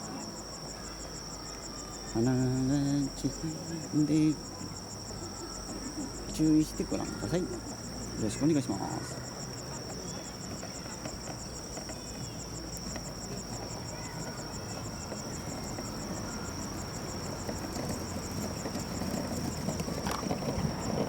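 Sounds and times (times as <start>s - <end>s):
insects chirping: 0.0s - 21.0s
low background murmur: 0.0s - 21.0s.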